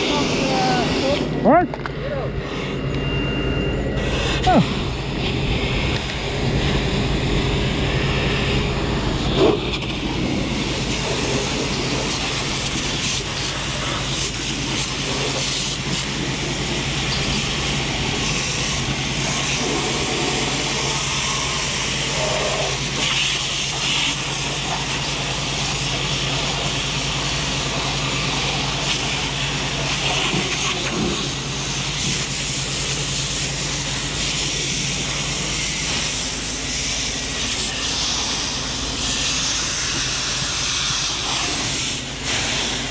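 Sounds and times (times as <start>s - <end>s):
hose spraying water: 0.0s - 1.3s, 4.0s - 42.9s
low engine hum: 0.0s - 42.9s.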